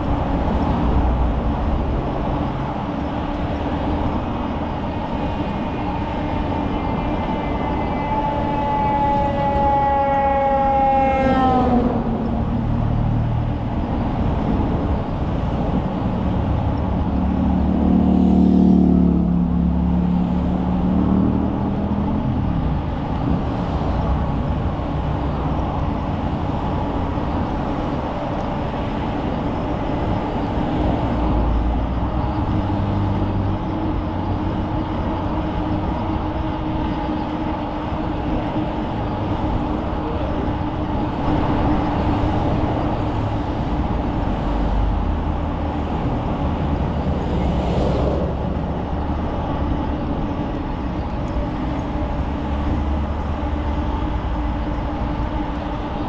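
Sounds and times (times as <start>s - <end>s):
passing vehicle tone: 0.0s - 56.0s
wind and road rush: 0.0s - 56.0s.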